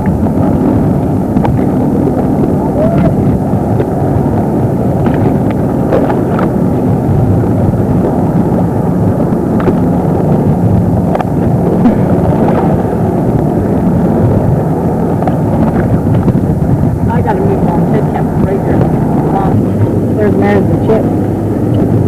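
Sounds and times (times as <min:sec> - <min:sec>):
motorboat engine drone: 0:00.0 - 0:22.0
wind buffeting microphone: 0:00.0 - 0:22.0.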